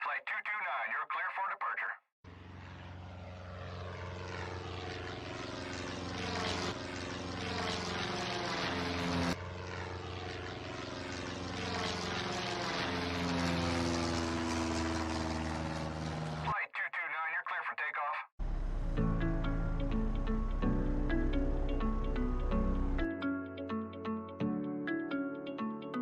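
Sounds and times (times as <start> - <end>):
propeller airplane engine running: 2.3 - 25.9.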